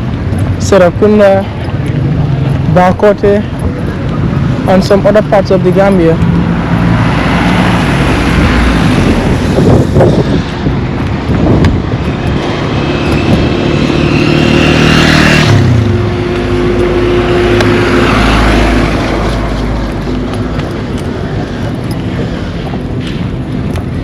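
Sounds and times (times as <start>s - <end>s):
road traffic passing: 0.0s - 24.0s
vehicle passing by: 3.4s - 24.0s.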